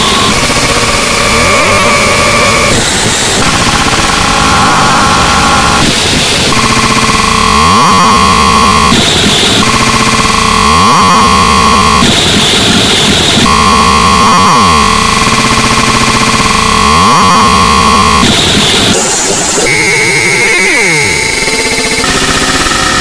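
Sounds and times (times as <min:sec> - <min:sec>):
distorted electronic buzzing: 0:00.0 - 0:23.0.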